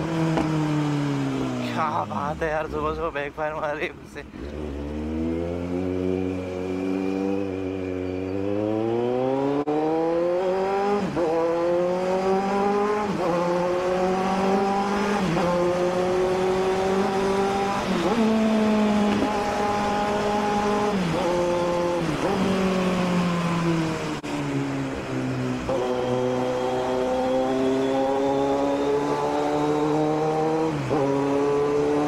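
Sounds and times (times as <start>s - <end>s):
motorcycle engine accelerating: 0.0s - 2.2s, 4.3s - 32.0s.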